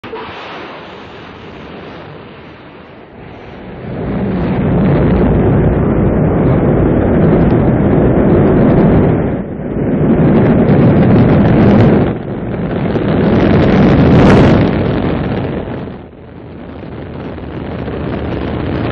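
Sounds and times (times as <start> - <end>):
rocket engines rumbling: 0.0 - 18.9.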